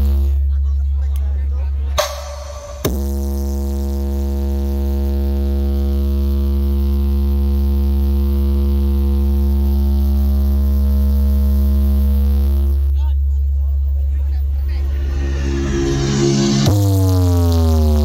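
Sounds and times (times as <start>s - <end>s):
buzzy low drone from loudspeakers: 0.0s - 18.0s.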